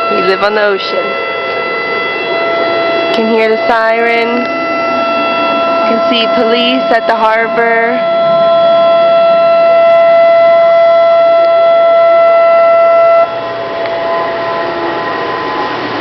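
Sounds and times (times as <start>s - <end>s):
warning sirens steady tone: 0.0s - 16.0s.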